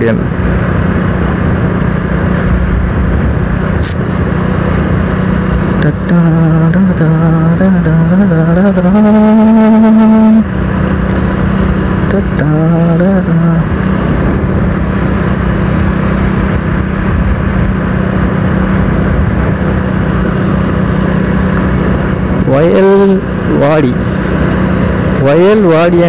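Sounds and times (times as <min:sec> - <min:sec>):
motorcycle engine drone: 0:00.0 - 0:26.0.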